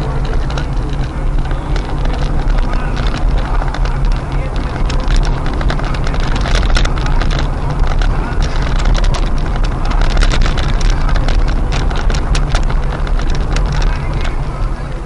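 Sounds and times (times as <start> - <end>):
car engine and road rumble: 0.0 - 15.0
knocks and rattles: 0.0 - 15.0.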